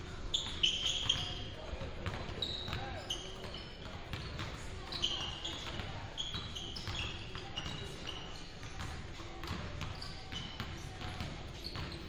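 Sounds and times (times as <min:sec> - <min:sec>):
sneakers squeaking on floor: 0:00.0 - 0:12.0
basketballs bouncing on hardwood: 0:00.4 - 0:04.6, 0:05.2 - 0:08.1, 0:08.7 - 0:12.0.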